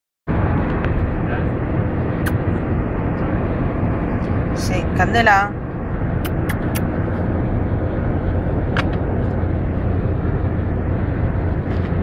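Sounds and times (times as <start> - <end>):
car road and engine noise: 0.3 - 12.0.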